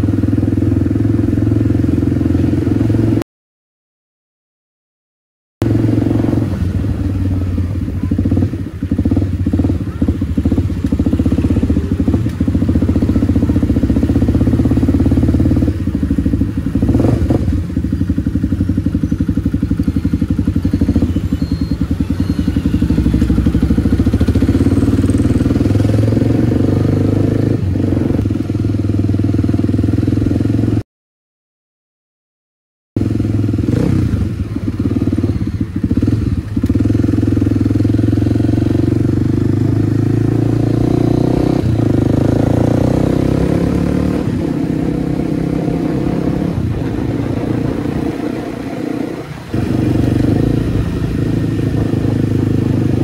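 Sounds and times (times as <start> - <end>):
motorcycle engine running: 0.0 - 3.2, 5.6 - 30.8, 33.0 - 53.0.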